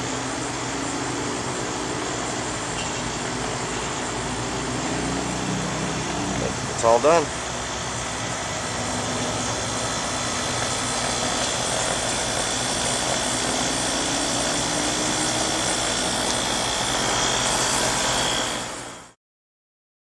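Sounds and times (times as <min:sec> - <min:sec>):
heat pump whirring and humming: 0:00.0 - 0:19.2.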